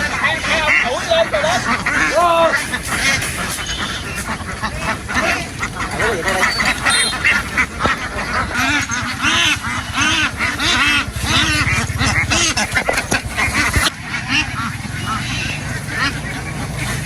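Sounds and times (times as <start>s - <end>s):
ducks quacking: 0.0s - 17.0s
steady low rumble: 2.7s - 17.0s.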